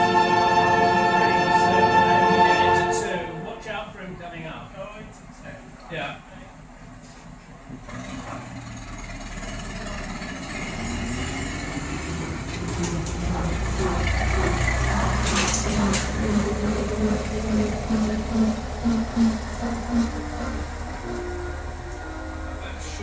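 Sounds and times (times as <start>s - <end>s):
diesel locomotive engine rumbling: 0.0s - 23.0s.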